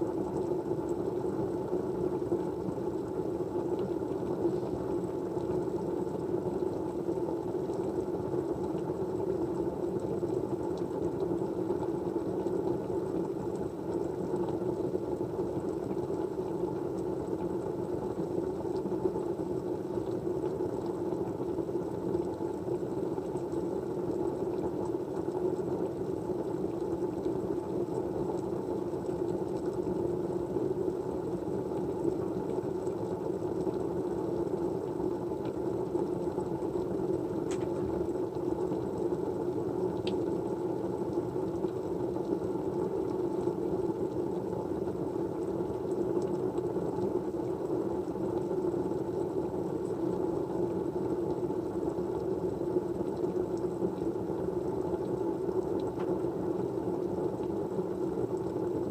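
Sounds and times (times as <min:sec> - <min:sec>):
low white noise: 0:00.0 - 0:58.9.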